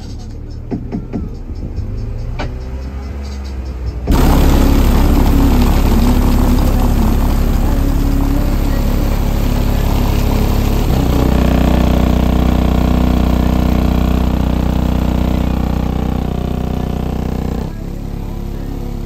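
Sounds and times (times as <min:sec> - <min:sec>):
deep bass from subwoofers: 0:00.0 - 0:19.0.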